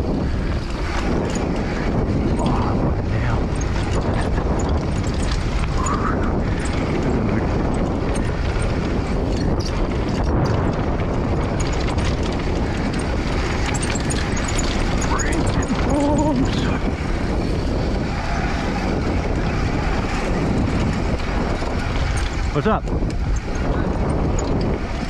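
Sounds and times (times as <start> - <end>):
bike clicks and rattles: 0.0 - 25.0
tyres rolling over dirt and stones: 0.0 - 25.0
wind buffeting microphone: 0.0 - 25.0.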